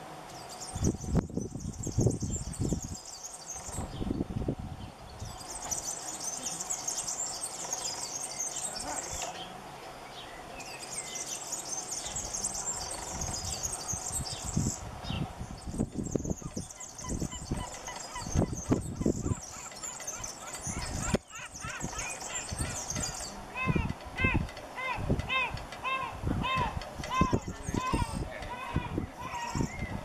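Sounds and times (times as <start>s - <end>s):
bird singing rapid high song: 0.3s - 30.0s.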